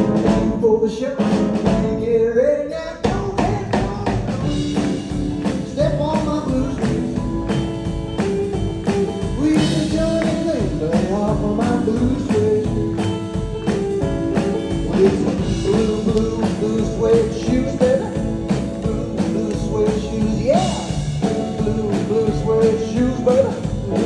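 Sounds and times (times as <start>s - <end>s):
drum kit beat: 0.0s - 2.2s, 2.9s - 24.0s
electric guitar: 0.0s - 24.0s.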